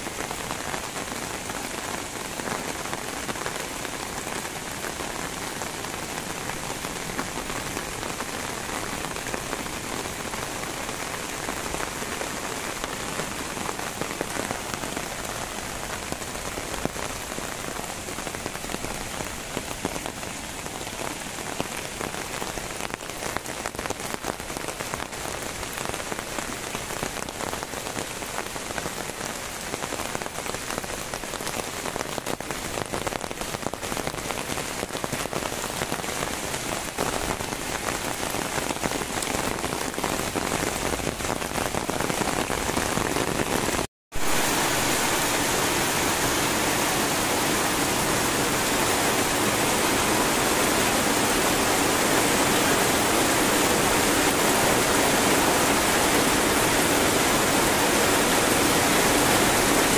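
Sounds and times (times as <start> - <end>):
rain falling on foliage: 0.0 - 59.9.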